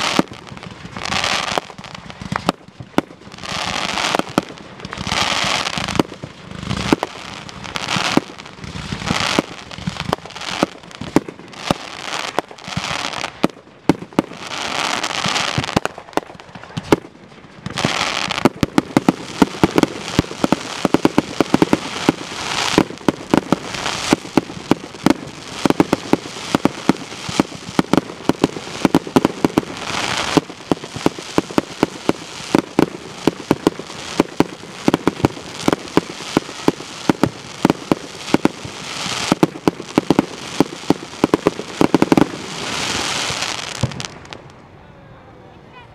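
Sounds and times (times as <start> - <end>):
fireworks bangs: 0.0 - 44.7
hissing crackle of fireworks: 0.0 - 44.7.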